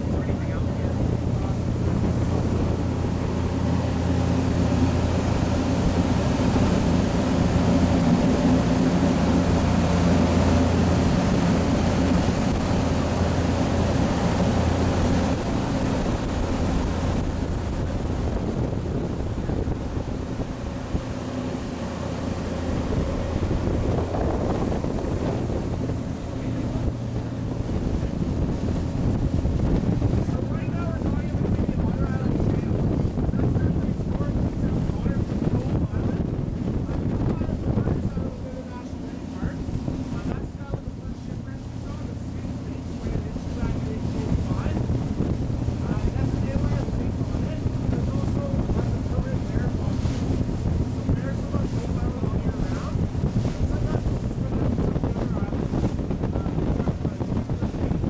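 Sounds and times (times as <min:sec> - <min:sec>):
boat engine drone: 0:00.0 - 0:58.0
water rushing: 0:00.0 - 0:58.0
wind buffeting microphone: 0:00.0 - 0:58.0.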